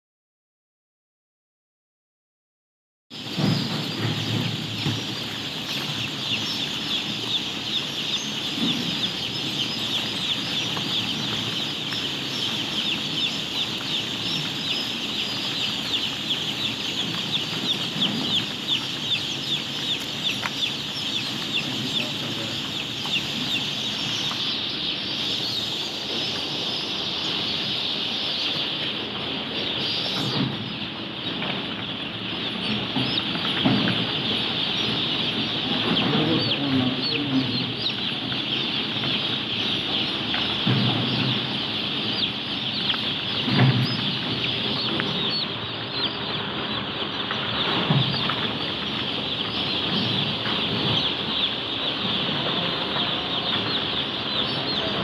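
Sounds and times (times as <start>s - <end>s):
chicks peeping: 3.1s - 55.0s.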